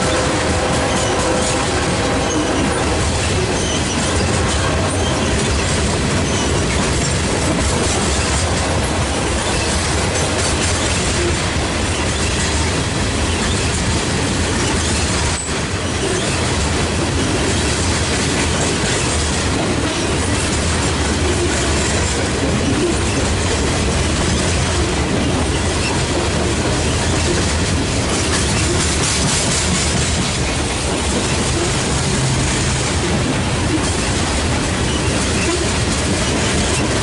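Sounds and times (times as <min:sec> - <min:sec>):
freight train wheels on rails: 0:00.0 - 0:37.0.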